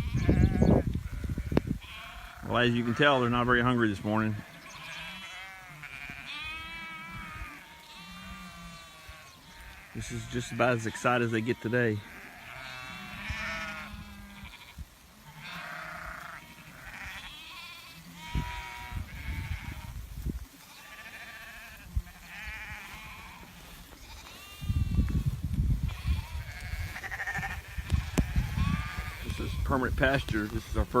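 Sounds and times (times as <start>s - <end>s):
sheep bleating: 0.0s - 20.0s, 20.6s - 31.0s.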